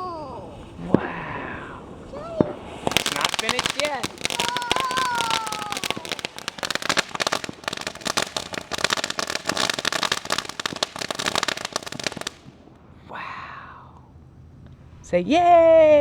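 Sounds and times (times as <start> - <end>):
ground firework crackling: 0.0 - 12.9.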